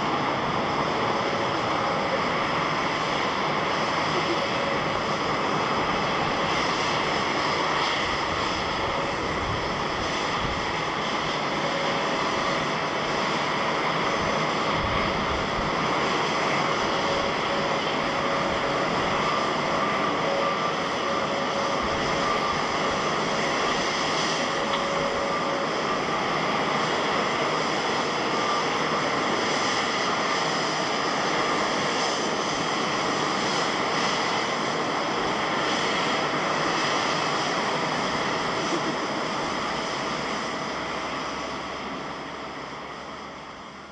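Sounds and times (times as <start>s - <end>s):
faint high whine: 0.0s - 43.9s
jet engines roaring: 0.0s - 43.9s.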